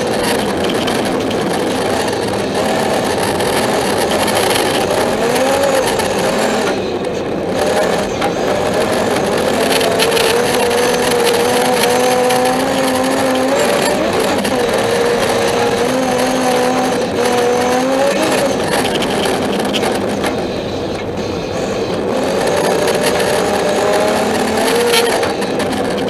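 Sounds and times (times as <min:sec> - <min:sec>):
car engine revving under load: 0:00.0 - 0:26.0
road noise: 0:00.0 - 0:26.0.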